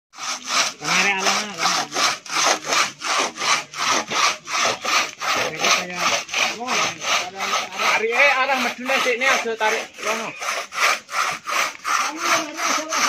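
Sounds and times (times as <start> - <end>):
hand saw rasping through wood: 0.1 - 13.0.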